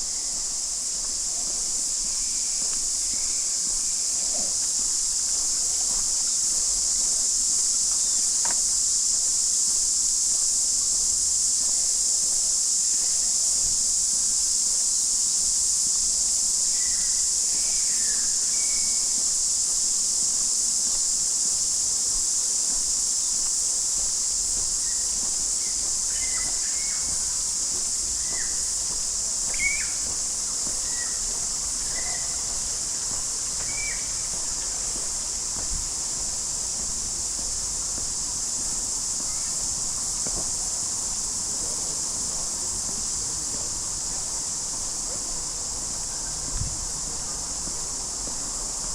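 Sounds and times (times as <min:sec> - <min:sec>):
cicada chorus: 0:00.0 - 0:48.9.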